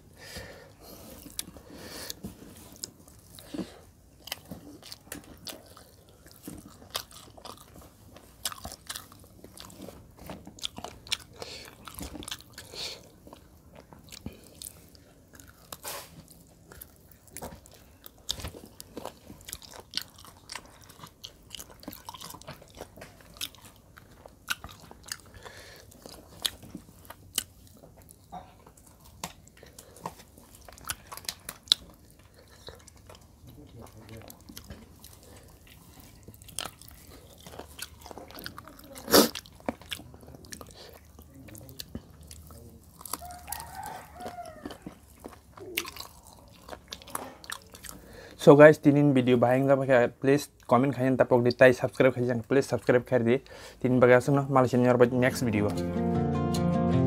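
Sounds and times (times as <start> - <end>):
person chewing food: 0.0 - 48.4.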